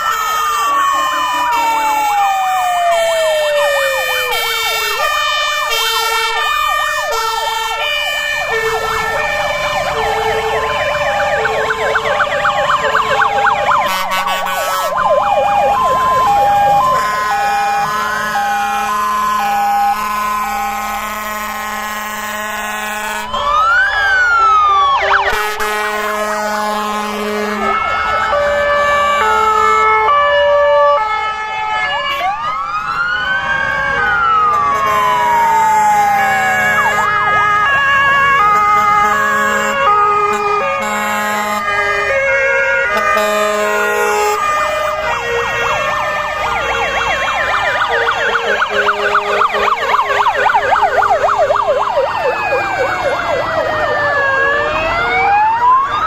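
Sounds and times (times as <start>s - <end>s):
fast yelping siren: 0.0s - 21.1s, 23.3s - 26.2s, 26.8s - 56.0s
two-tone siren: 0.0s - 56.0s
wailing sirens: 0.0s - 56.0s.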